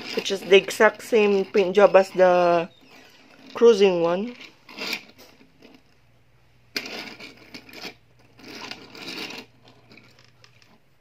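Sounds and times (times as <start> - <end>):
toy cars rolling on desk: 0.0 - 6.0, 6.7 - 10.8.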